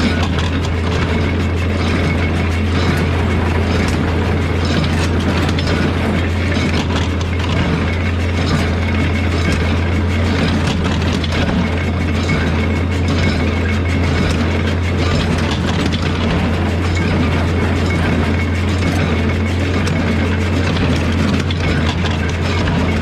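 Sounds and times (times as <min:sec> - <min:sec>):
baler rattling and clicking: 0:00.0 - 0:23.0
tractor engine running: 0:00.0 - 0:23.0.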